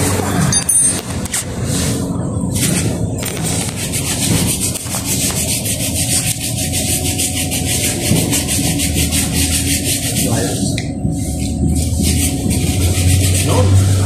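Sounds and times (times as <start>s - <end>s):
rasping scrubbing strokes: 1.4s - 14.0s.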